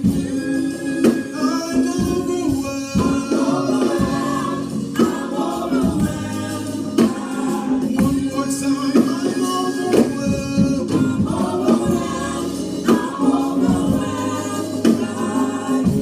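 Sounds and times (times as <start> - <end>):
band playing: 0.0 - 16.0
drum hits: 0.0 - 16.0
group of singers: 0.0 - 16.0.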